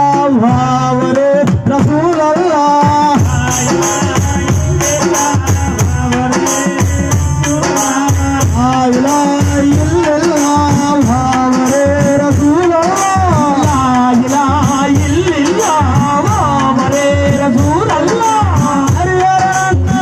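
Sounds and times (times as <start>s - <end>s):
hand drums and percussion: 0.0s - 20.0s
man singing into a microphone: 0.0s - 20.0s.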